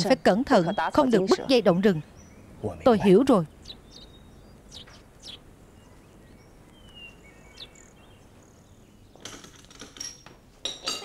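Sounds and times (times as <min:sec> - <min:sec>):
high bird chirps: 0:00.0 - 0:09.2.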